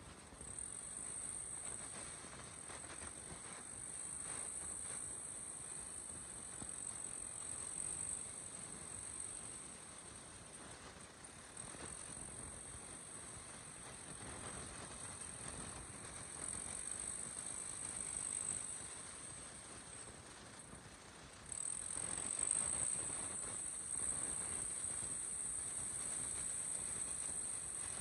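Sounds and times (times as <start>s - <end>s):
high-pitched hiss: 0.0s - 28.0s.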